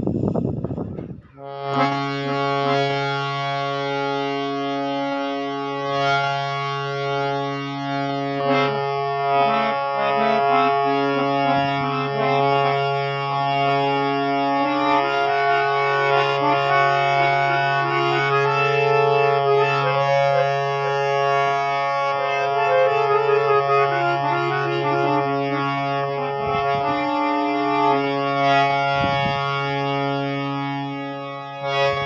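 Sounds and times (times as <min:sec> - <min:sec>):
harmonium low drone: 0:00.0 - 0:32.0
harmonium reed melody: 0:01.3 - 0:32.0.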